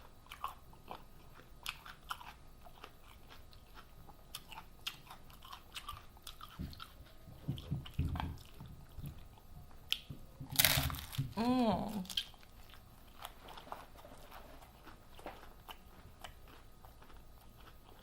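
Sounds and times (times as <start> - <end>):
wet chewing and smacking: 0.0 - 10.1, 12.1 - 18.0
heavy low chewing: 0.0 - 10.4, 11.3 - 18.0.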